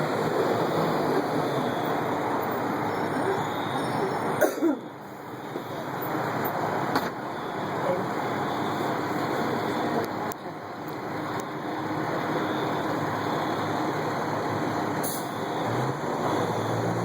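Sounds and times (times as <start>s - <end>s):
road traffic rumble: 0.0s - 17.0s
vehicle engine drone: 0.0s - 17.0s.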